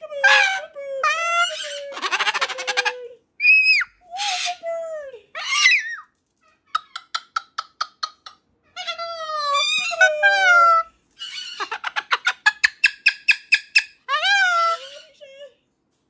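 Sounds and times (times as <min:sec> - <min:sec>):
parrot calling: 0:00.2 - 0:04.7, 0:05.3 - 0:15.3.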